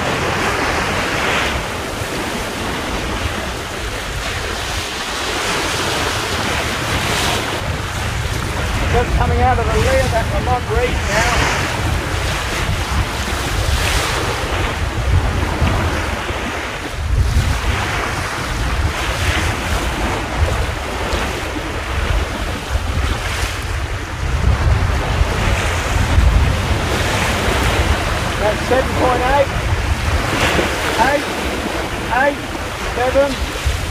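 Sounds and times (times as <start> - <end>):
water splashing along hull: 0.0 - 33.9
wind buffeting microphone: 0.0 - 33.9.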